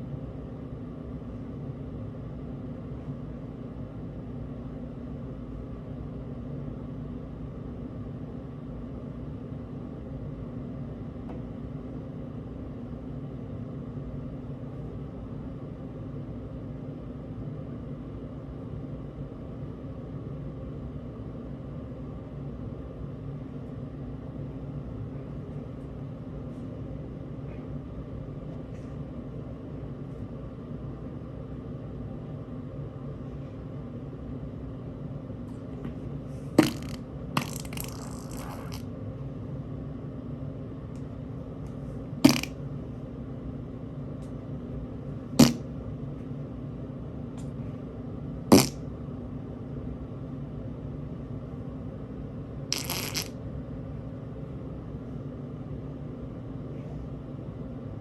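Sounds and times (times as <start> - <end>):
steady low hum: 0.0 - 52.7.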